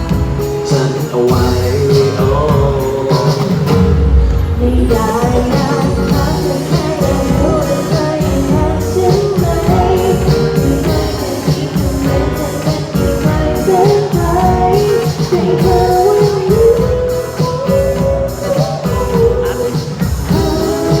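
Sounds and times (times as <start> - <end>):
band playing pop-rock song: 0.0 - 21.0
drum beat: 0.0 - 21.0
person singing: 0.0 - 21.0.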